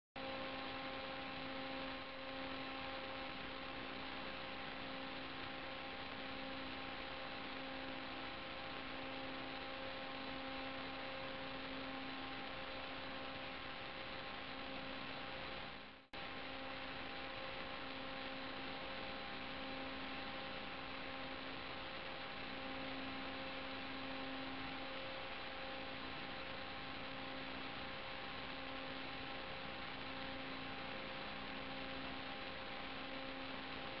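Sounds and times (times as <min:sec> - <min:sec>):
electrical hum and hiss: 0:00.2 - 0:34.0.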